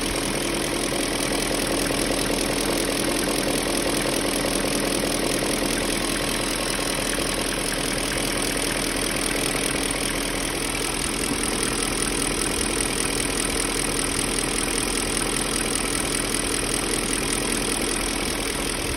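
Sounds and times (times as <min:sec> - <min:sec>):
car engine idling: 0:00.0 - 0:18.9
engine knock: 0:00.0 - 0:18.9.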